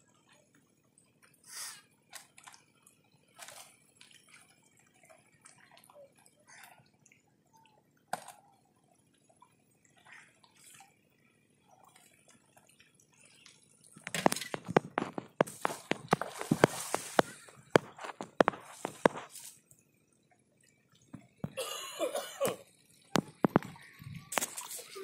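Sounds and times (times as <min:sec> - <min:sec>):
water dripping and splashing: 0:00.1 - 0:25.0.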